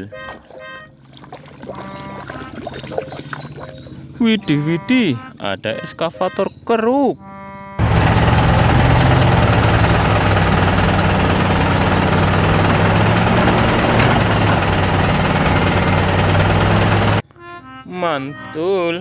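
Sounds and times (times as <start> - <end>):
heavy engine humming: 0.0 - 19.0.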